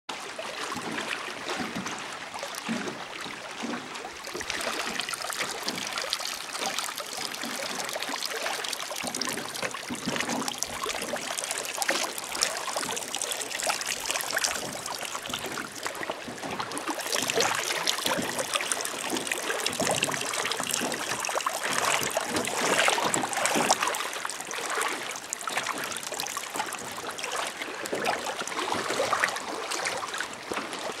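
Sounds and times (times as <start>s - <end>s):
urine splashing into water: 3.6s - 30.9s.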